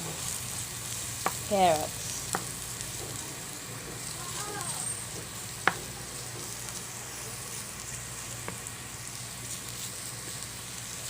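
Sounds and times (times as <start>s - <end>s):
beetroot sizzling in a pan: 0.0s - 11.0s.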